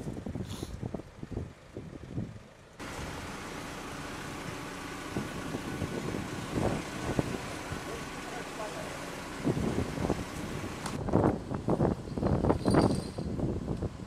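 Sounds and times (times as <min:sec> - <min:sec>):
wind rumble: 0:00.0 - 0:08.2, 0:09.0 - 0:14.0
fire engine running: 0:00.0 - 0:12.3.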